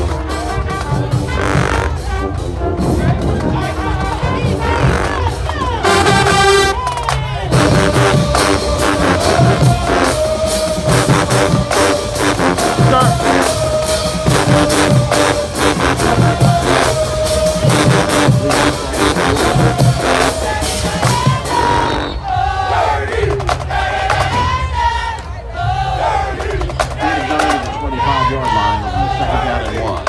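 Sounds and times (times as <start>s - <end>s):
brass melody: 0.0s - 25.0s
drumline beat: 0.0s - 30.0s.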